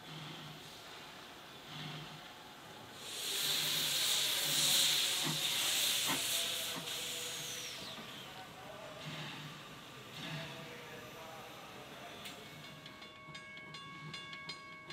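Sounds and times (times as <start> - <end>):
steam locomotive hissing: 0.0 - 13.1.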